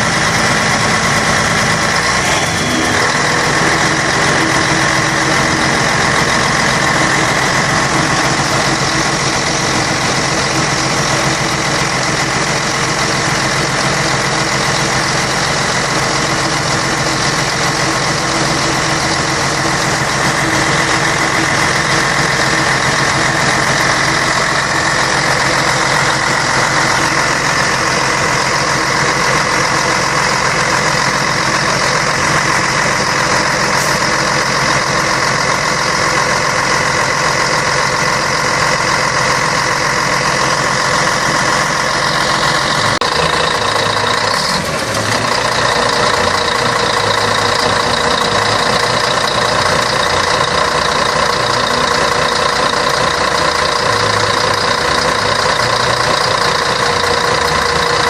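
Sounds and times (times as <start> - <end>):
diesel bus engine running: 0.0 - 58.0.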